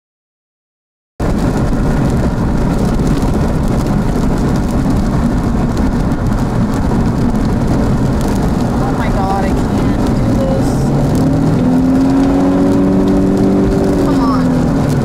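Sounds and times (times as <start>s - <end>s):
wind buffeting microphone: 1.2s - 15.0s.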